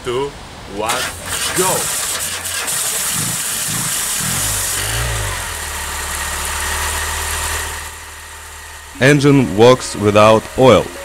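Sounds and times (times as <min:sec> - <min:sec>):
car engine revving and idling: 0:01.0 - 0:11.0.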